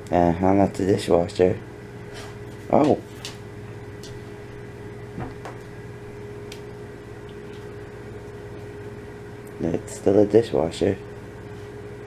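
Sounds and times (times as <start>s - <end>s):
dishwasher humming: 0.0s - 12.0s.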